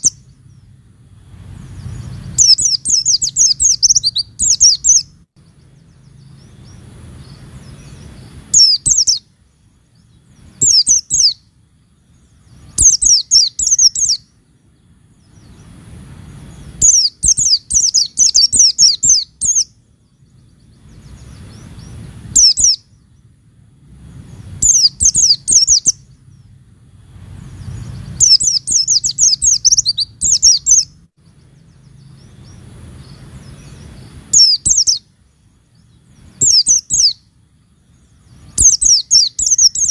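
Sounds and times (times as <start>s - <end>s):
bird chirping: 0.0s - 39.9s
faint low hum: 0.0s - 39.9s.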